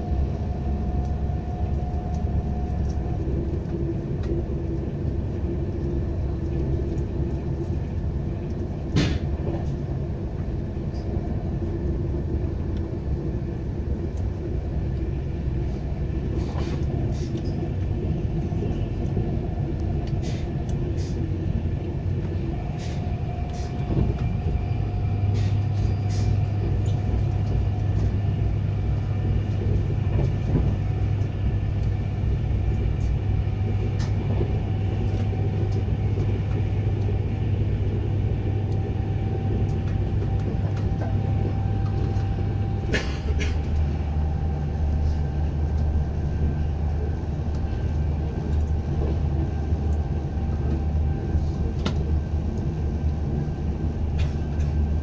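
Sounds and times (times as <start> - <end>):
train rumbling from inside: 0.0 - 55.0.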